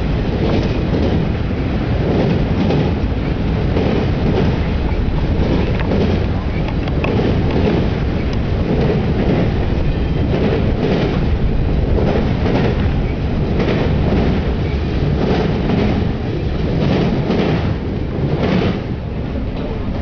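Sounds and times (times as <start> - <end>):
train wheels rumbling on rails: 0.0 - 20.0
wheels clacking over rail joints: 0.0 - 20.0.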